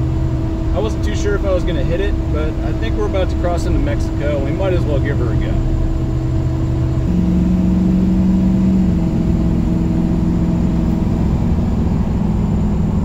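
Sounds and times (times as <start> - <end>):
pickup engine pulling under throttle: 0.0 - 13.0.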